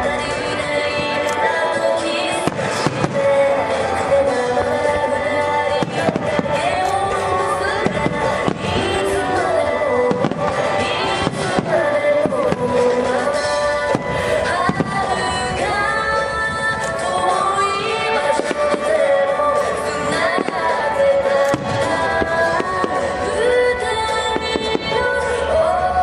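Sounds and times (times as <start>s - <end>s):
loud music: 0.0s - 26.0s
fireworks bangs: 0.3s - 16.1s, 16.8s - 25.6s.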